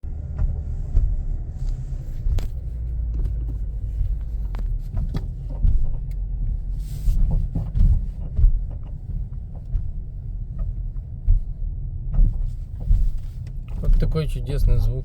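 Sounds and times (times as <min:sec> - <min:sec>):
low road rumble: 0:00.0 - 0:15.0
suspension knocking and creaking: 0:00.0 - 0:15.0.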